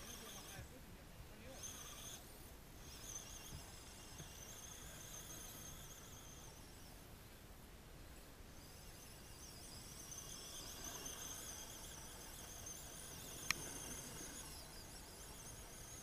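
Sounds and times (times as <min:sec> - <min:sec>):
electric motor whining: 0:00.0 - 0:00.8, 0:01.4 - 0:07.0, 0:08.5 - 0:16.0.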